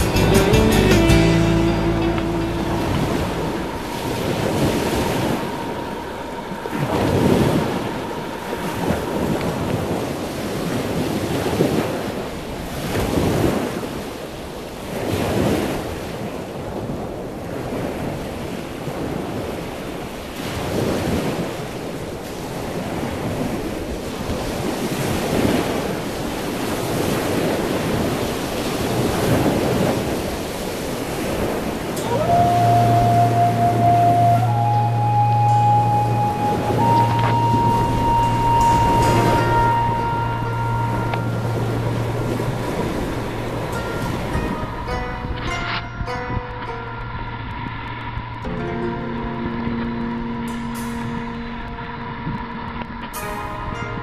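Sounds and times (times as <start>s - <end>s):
ocean waves washing in: 0.0s - 54.0s.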